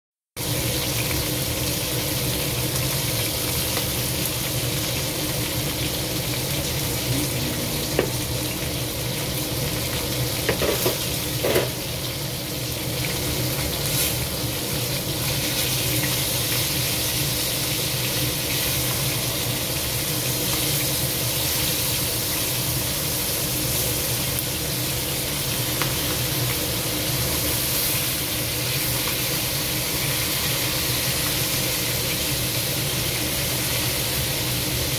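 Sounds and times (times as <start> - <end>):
shellfish sizzling in oil: 0.4 - 34.9.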